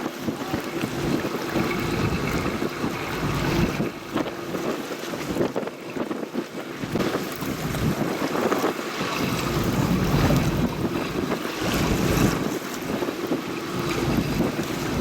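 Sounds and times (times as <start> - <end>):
sea water washing: 0.0 - 15.0
wind buffeting microphone: 0.0 - 15.0.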